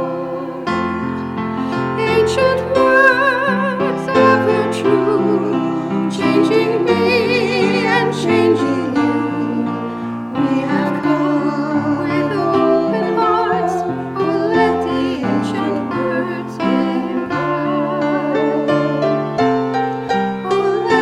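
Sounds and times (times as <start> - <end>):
person singing with vibrato: 0.0 - 1.0, 1.6 - 19.4, 20.1 - 21.0
piano chords: 0.0 - 21.0.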